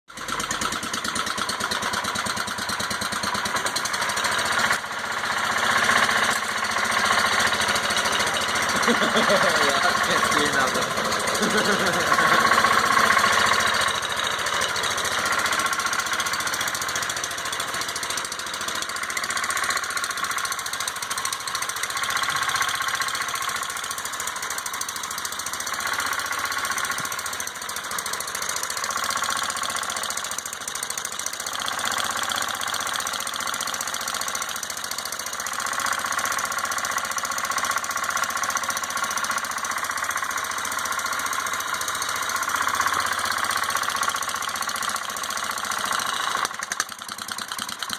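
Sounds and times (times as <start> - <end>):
garden tractor engine running: 0.1 - 47.9.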